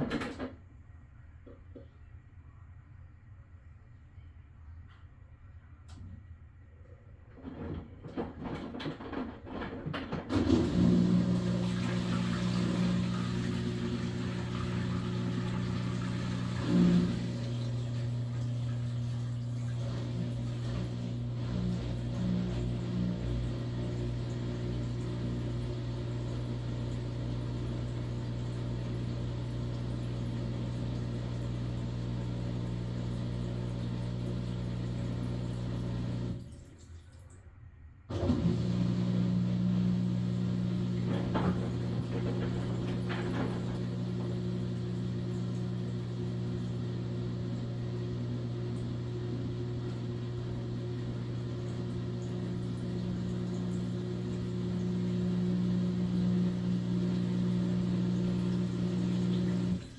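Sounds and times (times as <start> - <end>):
washing machine motor hum: 5.6 - 59.9.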